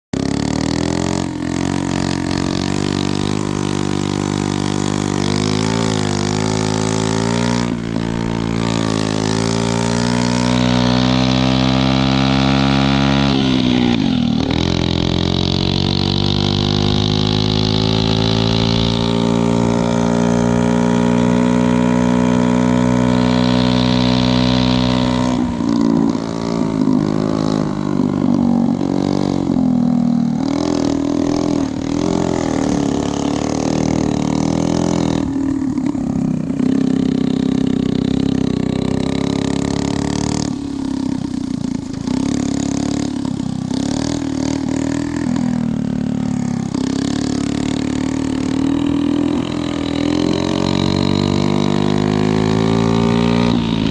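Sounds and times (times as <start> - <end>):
small motorbike engine accelerating: 0.2 - 53.9.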